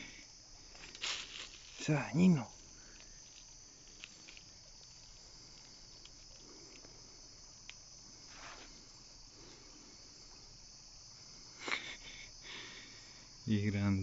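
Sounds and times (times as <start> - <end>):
cricket trill: 0.0 - 14.0.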